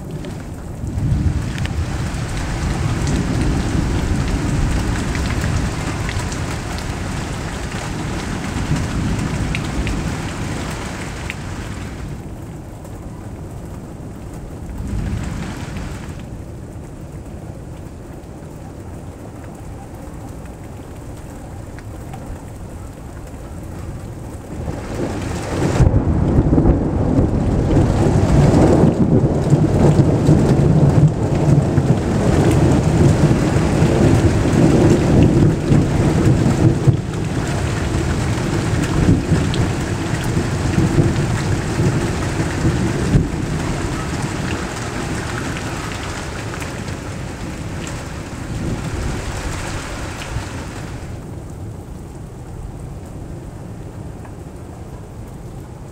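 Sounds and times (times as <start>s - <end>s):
thunder rumbling: 0.0s - 18.3s, 19.0s - 51.4s
rain falling: 0.0s - 55.9s.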